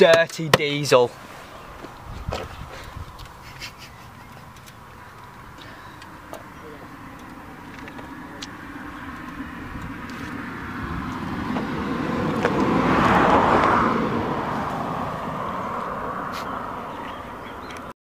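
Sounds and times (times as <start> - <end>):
vehicle passing: 1.1 - 17.9.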